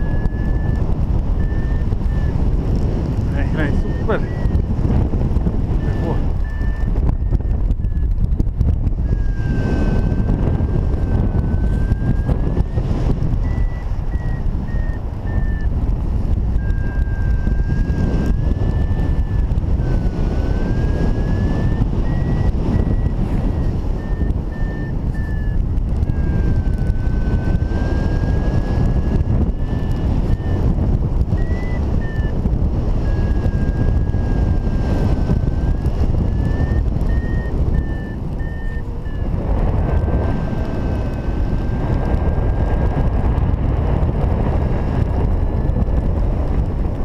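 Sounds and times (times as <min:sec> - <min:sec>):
variometer tone and beeps: 0:00.0 - 0:43.3
wind on microphone: 0:00.0 - 0:47.0.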